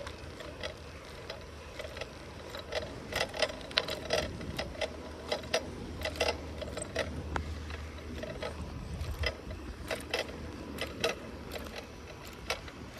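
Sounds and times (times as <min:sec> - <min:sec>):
bicycle clicks and rattles: 0:00.0 - 0:12.9.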